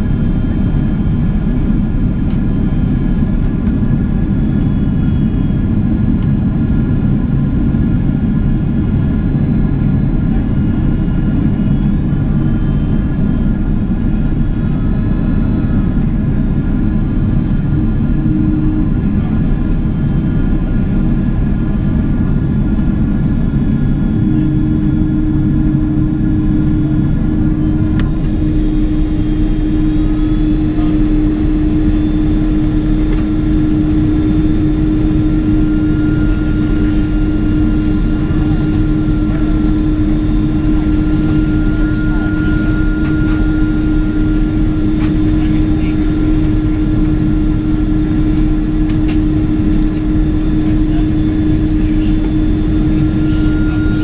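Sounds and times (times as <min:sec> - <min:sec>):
jet engine drone and air rush: 0:00.0 - 0:54.0
steady humming tones: 0:00.0 - 0:54.0.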